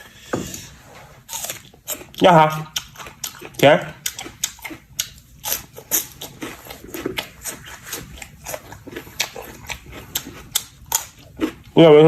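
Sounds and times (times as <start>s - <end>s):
person chewing crisp food: 0.0s - 12.0s.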